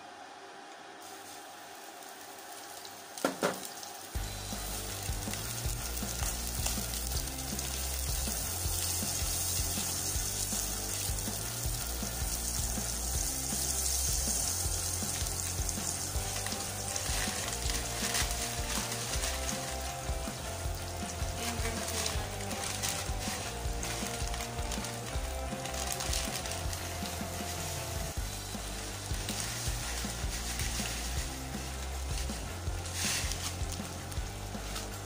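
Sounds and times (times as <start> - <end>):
butter sizzling in a pot: 1.0 - 35.0.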